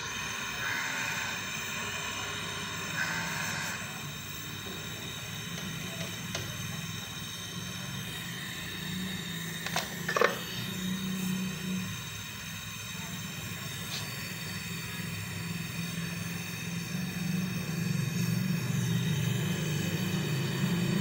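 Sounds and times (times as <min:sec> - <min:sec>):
gas torch hissing: 0:00.0 - 0:21.0.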